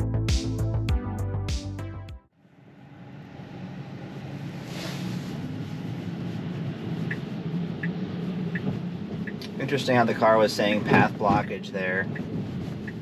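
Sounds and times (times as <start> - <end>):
road and tyre noise in car: 2.5 - 13.0.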